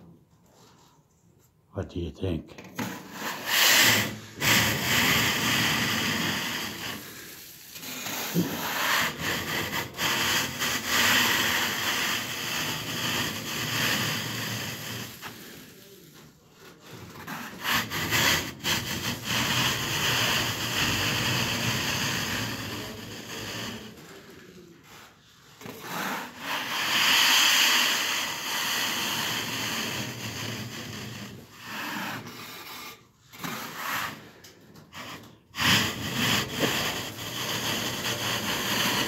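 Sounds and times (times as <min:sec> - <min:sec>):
metal scraper scraping ceiling: 0:02.8 - 0:39.0.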